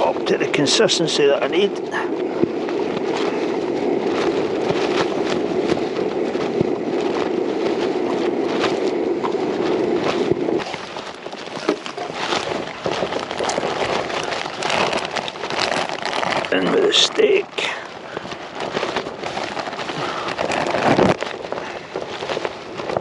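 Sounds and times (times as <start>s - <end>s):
rustling: 0.0s - 23.0s.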